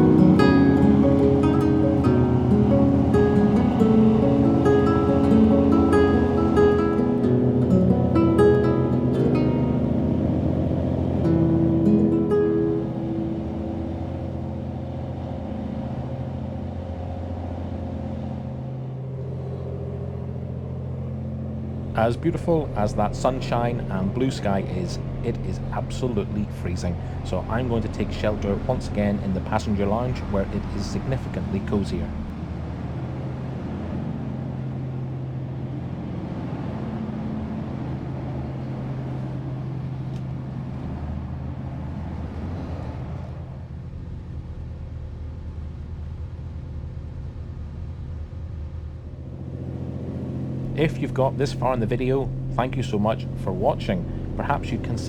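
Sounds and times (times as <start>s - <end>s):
ship engines droning: 0.0s - 55.0s.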